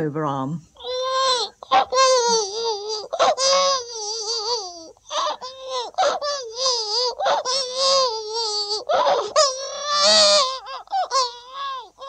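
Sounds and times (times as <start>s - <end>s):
man imitating baby crying: 0.8s - 12.0s.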